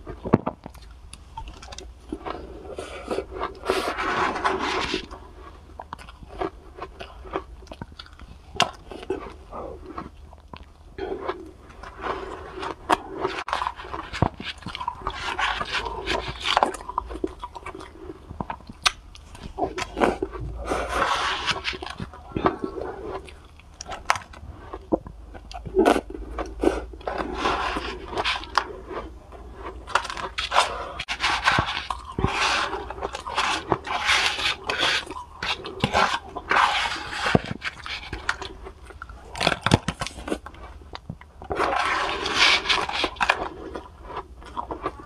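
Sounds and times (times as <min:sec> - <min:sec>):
crunching and chewing ice: 0:00.0 - 0:45.0.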